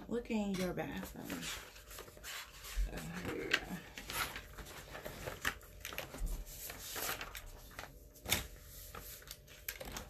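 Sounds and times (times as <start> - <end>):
paper rustling: 0.5 - 10.0.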